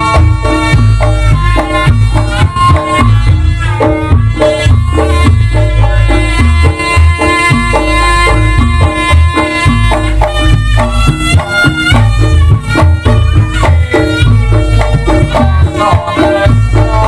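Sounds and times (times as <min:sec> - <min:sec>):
heavy hand-drumming: 0:00.0 - 0:17.0
reedy shawm-like melody: 0:00.0 - 0:17.0.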